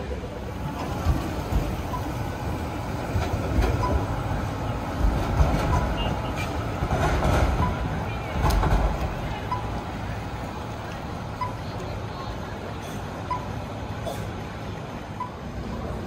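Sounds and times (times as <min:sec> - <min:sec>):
tram clunks and knocks: 0:00.0 - 0:16.0
tram wheels rumbling on rails: 0:00.0 - 0:16.0.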